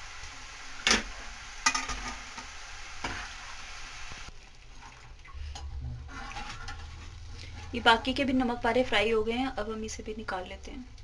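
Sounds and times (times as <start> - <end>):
dough sizzling in hot oil: 0.0 - 9.6.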